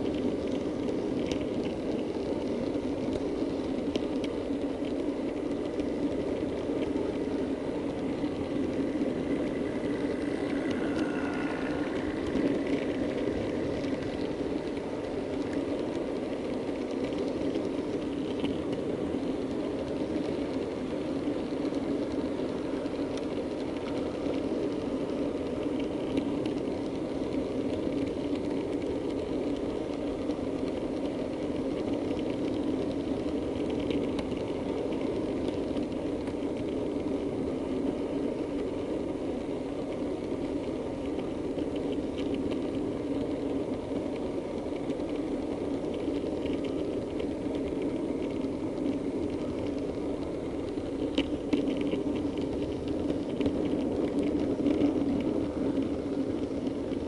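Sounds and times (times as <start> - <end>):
model train motor and wheels rumbling: 0.0 - 57.0.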